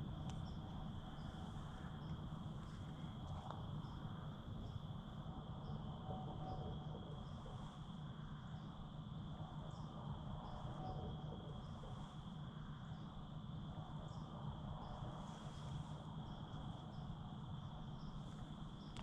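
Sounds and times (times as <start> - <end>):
insects trilling and chirping: 0.0 - 19.0
low steady rumble: 0.0 - 19.0.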